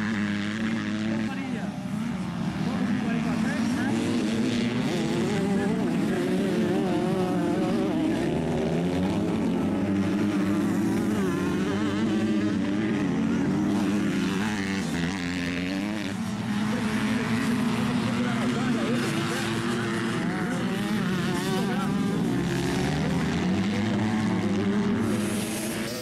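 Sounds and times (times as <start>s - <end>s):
motocross bikes revving: 0.0s - 26.0s.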